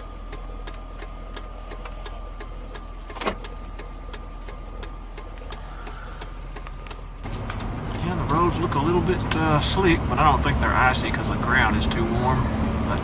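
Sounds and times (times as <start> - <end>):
light even ticking: 0.0 - 13.0
truck engine idling: 0.0 - 13.0.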